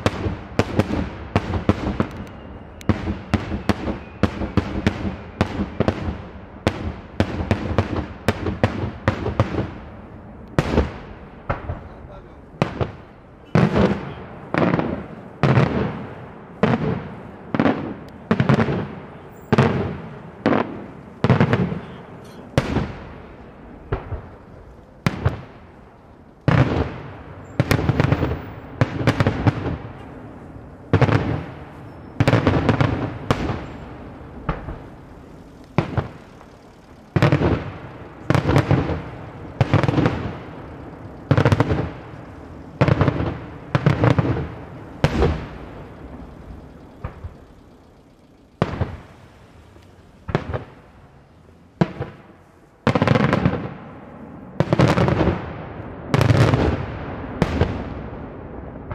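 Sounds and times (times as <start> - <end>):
fireworks bangs echoing: 0.0 - 51.2, 51.8 - 58.9.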